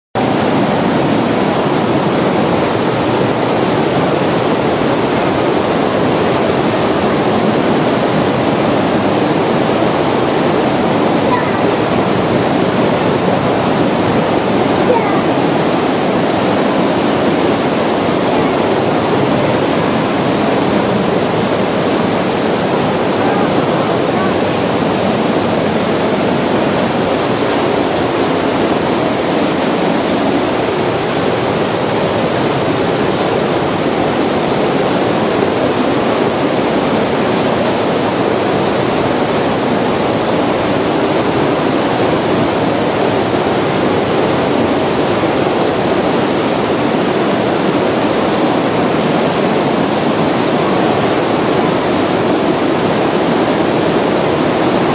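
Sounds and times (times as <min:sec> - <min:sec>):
river water rushing: 0:00.2 - 0:54.9.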